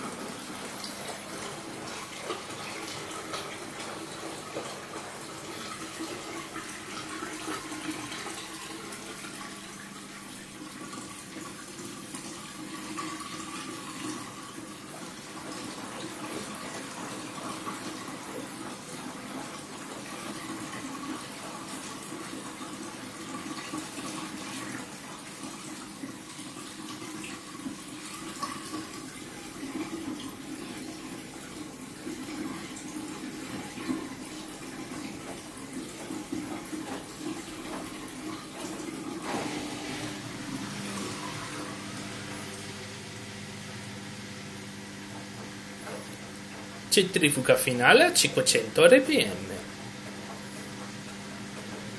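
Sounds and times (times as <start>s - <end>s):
drain pump running: 0.0s - 51.9s.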